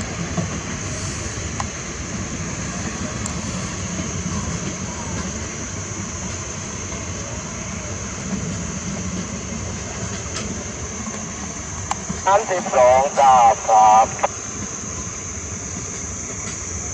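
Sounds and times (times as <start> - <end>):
constant high hiss: 0.0 - 16.9
train rumbling: 0.0 - 16.9.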